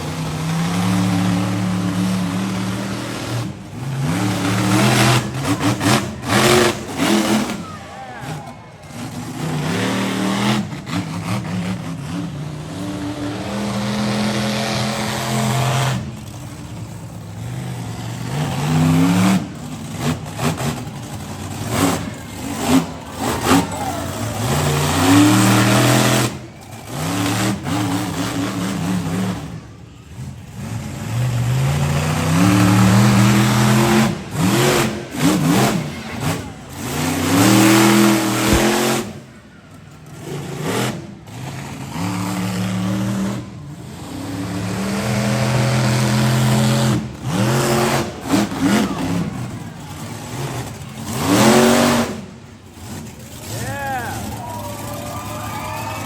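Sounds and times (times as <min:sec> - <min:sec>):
truck engine revving hard: 0:00.0 - 0:56.0.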